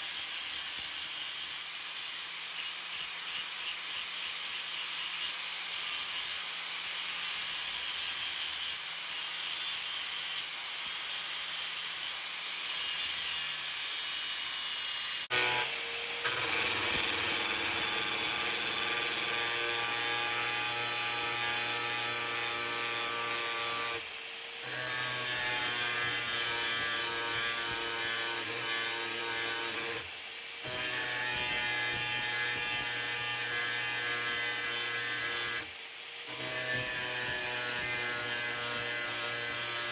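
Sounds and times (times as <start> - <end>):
power tool grinding: 0.0 - 39.9.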